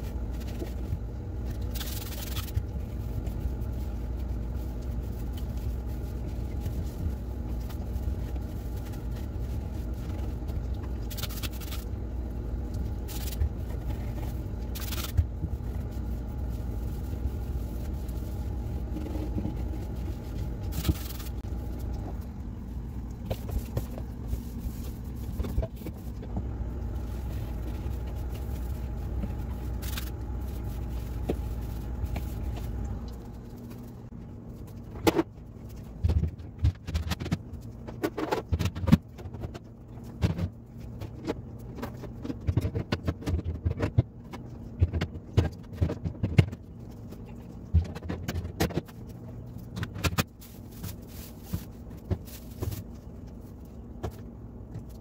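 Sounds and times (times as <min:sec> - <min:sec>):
cloth scrubbing plastic: 0:00.0 - 0:55.0
steady low hum: 0:00.0 - 0:55.0.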